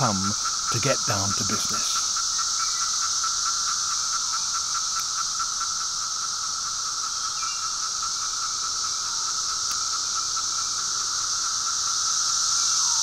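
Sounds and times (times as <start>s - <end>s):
cicadas buzzing: 0.0s - 13.0s
single cicada calls dropping in pitch: 0.0s - 13.0s.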